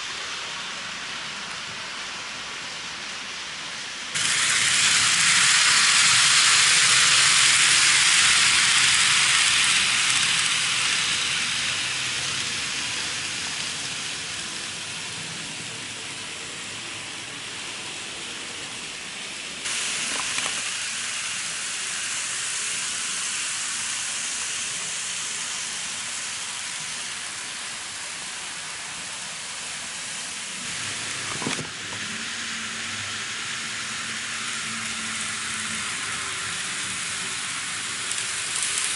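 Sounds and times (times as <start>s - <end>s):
model train wheels hissing on rail: 0.0s - 38.9s.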